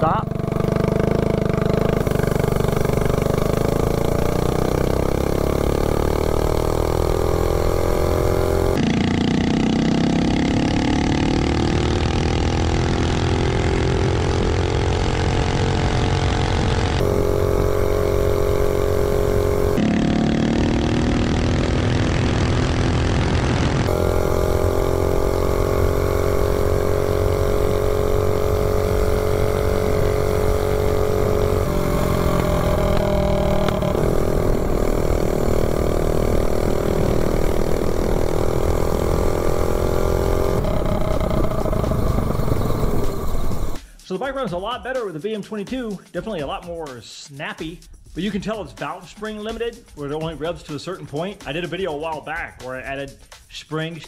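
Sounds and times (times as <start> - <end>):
small engine at full throttle: 0.0 - 44.0.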